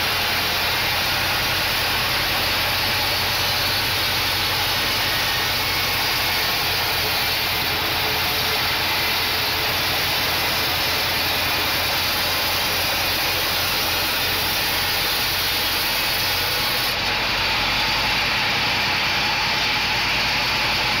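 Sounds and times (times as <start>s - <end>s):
band saw cutting log: 0.0s - 21.0s.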